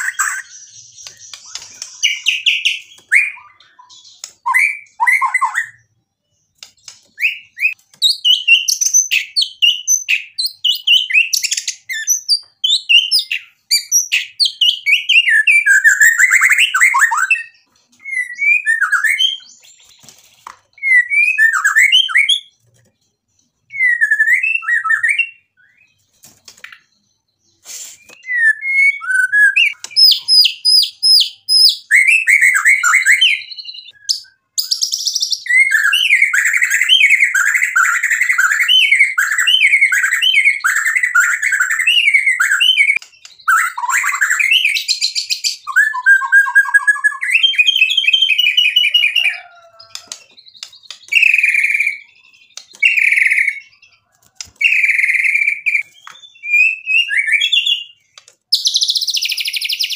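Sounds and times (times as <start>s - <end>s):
bird singing whistled phrases: 0.0s - 5.9s, 7.2s - 19.8s, 20.8s - 22.6s, 23.7s - 26.0s, 27.6s - 54.0s, 54.6s - 59.9s.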